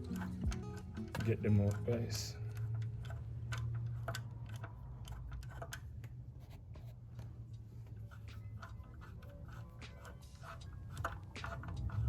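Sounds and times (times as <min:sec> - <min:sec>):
faint metallic clicks of bolts: 0:00.0 - 0:06.2, 0:06.9 - 0:12.0.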